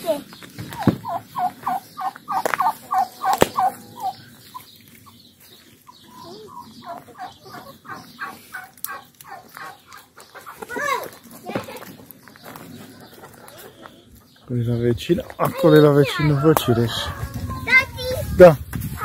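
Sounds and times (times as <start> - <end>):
poultry calling: 0.6 - 18.2.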